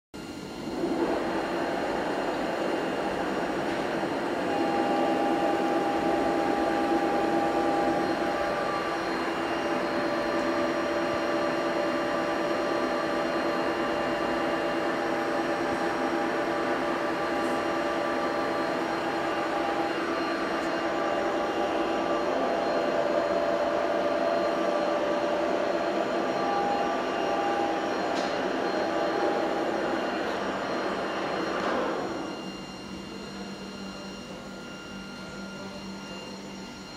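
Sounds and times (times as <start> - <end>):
milling machine drone: 0.2 - 36.9.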